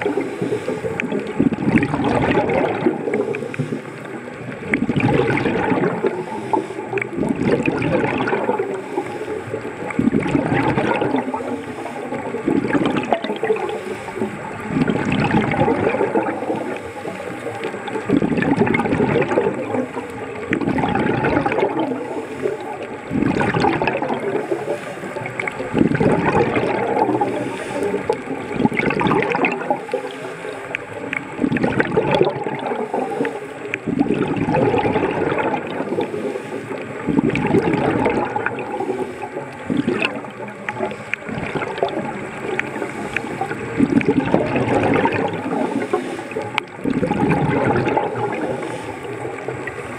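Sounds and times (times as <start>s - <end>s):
bubbles gurgling underwater: 0.0s - 49.9s
underwater wash: 0.0s - 49.9s.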